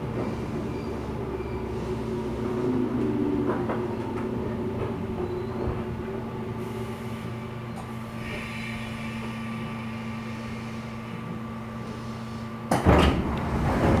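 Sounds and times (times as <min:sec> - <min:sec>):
train equipment humming: 0:00.0 - 0:14.0
train slowing to a stop: 0:00.0 - 0:14.0.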